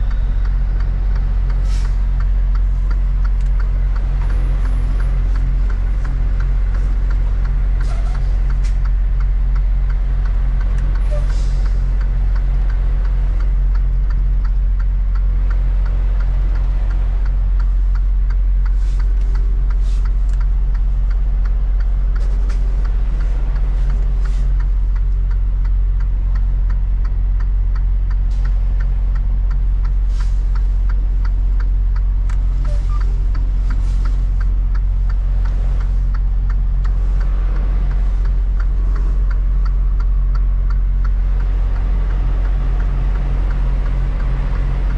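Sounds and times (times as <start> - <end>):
diesel engine idling: 0.0 - 44.9
fast light ticking: 0.0 - 44.9.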